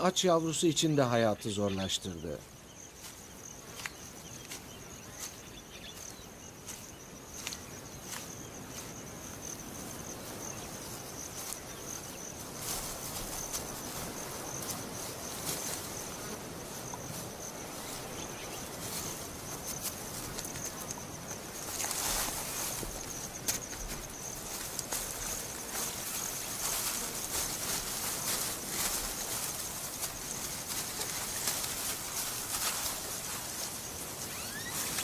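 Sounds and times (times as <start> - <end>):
insect chorus trilling: 0.0 - 35.0.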